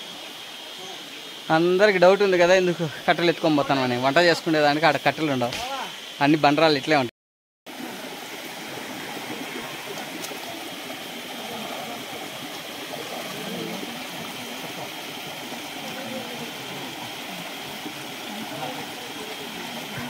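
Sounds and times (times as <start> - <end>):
stream water rushing: 0.0 - 6.9, 7.7 - 20.0.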